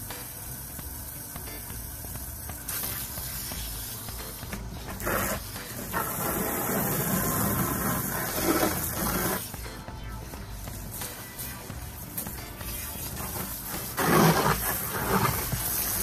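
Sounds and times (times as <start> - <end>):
hose nozzle spray hissing: 0.2 - 9.5, 10.9 - 16.0.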